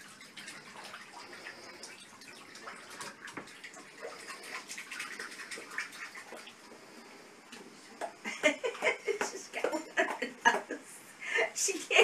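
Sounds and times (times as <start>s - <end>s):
water splashing: 0.0s - 10.9s.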